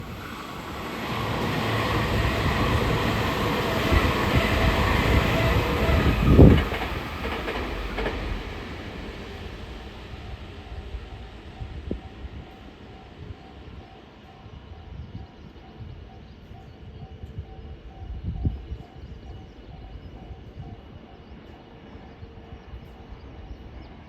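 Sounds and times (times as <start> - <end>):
electric train passing: 0.0 - 24.0.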